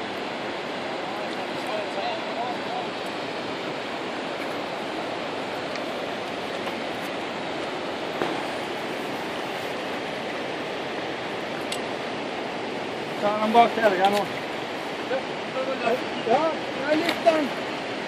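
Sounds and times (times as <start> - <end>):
river rushing over rapids: 0.0 - 18.0.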